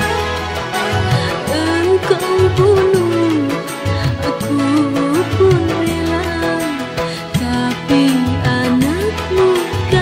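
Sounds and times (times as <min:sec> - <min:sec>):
melody with sliding notes: 0:00.0 - 0:10.0.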